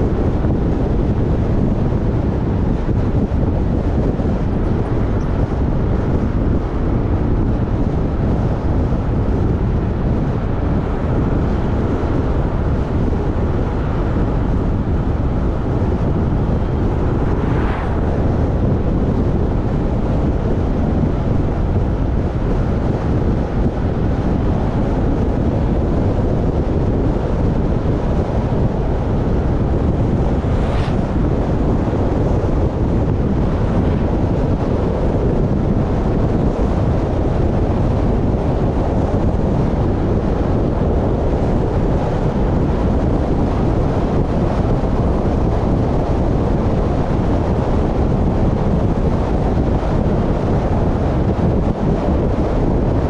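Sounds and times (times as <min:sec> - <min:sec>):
vehicle rumble on road: 0:00.0 - 0:53.0
wind buffeting microphone: 0:00.0 - 0:53.0.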